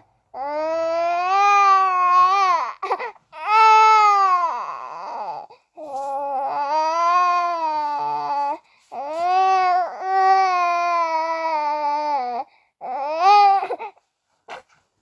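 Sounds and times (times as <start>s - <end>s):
baby crying: 0.3s - 14.0s.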